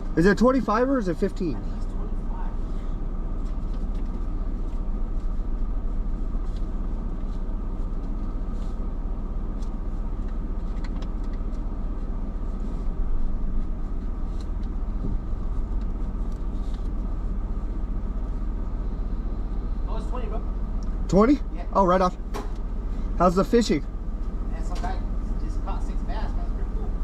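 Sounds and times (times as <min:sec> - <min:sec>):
car engine humming: 0:00.0 - 0:27.0.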